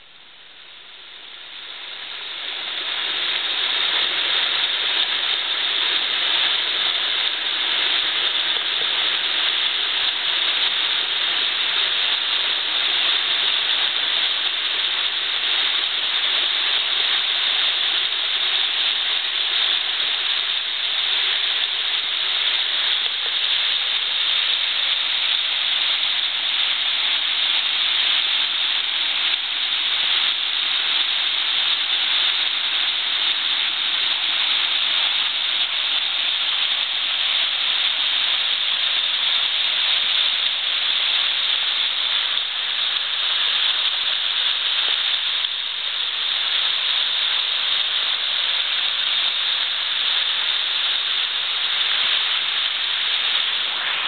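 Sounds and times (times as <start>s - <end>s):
waterfall rushing over rock: 0.0s - 54.0s.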